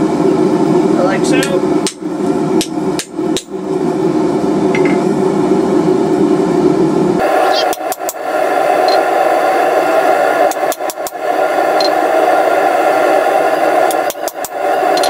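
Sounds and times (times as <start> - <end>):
forge roaring: 0.0 - 15.0.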